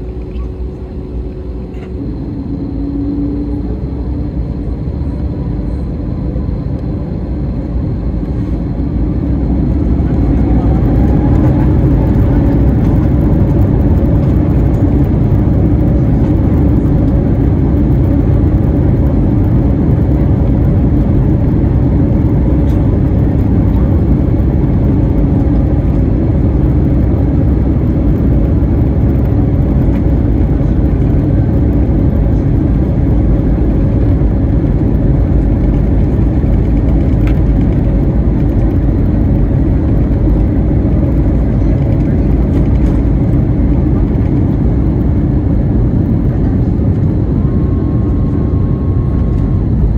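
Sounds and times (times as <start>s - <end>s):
airplane cabin rumble while taxiing: 0.0s - 49.9s
jet engines humming: 0.0s - 49.9s.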